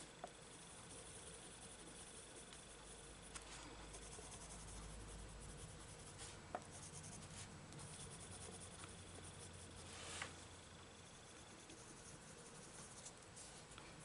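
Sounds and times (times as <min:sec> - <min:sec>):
pencil scratching on paper: 0:00.3 - 0:10.4, 0:11.0 - 0:14.0.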